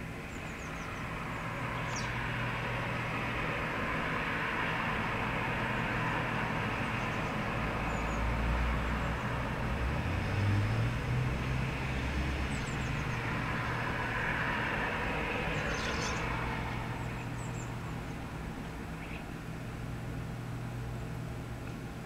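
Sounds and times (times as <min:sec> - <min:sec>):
road traffic rumble: 0:00.0 - 0:22.0
vehicle passing: 0:00.6 - 0:20.2.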